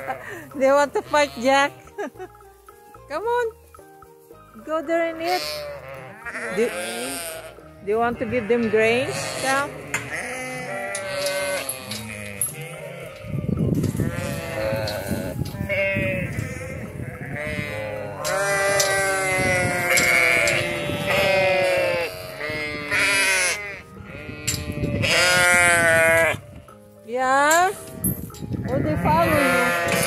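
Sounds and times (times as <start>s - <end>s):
sheep bleating: 0.0s - 2.0s, 4.8s - 26.4s, 28.6s - 30.0s.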